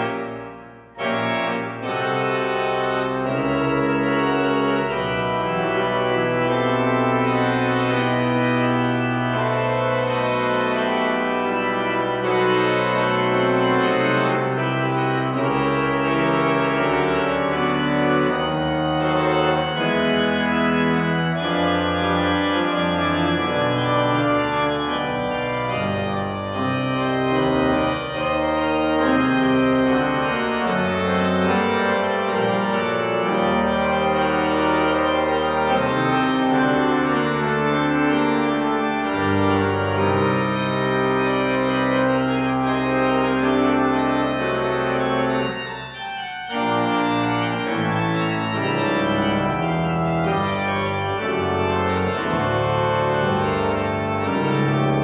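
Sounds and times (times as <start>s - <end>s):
church organ playing: 0.0s - 55.0s.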